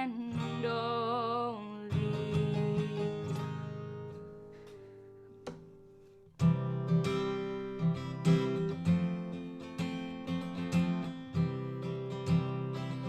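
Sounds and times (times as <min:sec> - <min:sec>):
acoustic guitar strumming: 0:00.0 - 0:13.0
guitar string pluck: 0:01.9 - 0:13.0.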